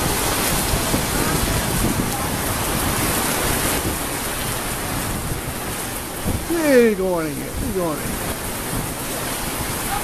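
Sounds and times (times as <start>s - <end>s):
heavy rain on flooded street: 0.0s - 10.0s.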